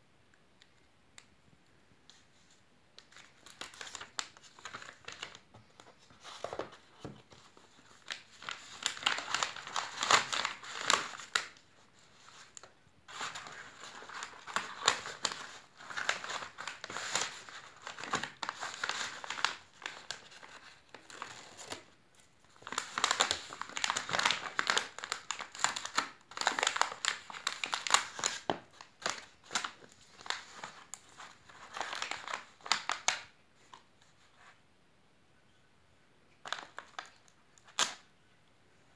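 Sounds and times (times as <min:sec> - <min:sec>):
padded envelope crinkling: 0:02.1 - 0:33.9, 0:36.4 - 0:38.1.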